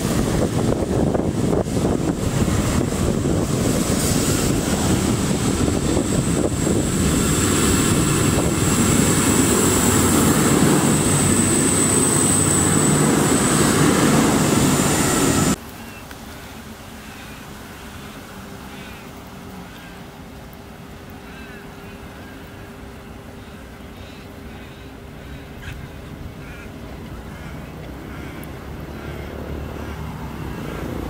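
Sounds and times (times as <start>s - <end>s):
diesel train passing: 0.0s - 15.6s, 16.4s - 31.0s.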